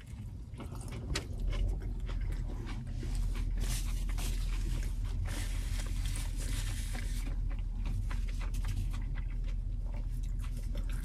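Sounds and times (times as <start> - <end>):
chewing: 0.0 - 11.0
food handling clicks and rustles: 0.0 - 11.0
steady low hum: 0.0 - 11.0.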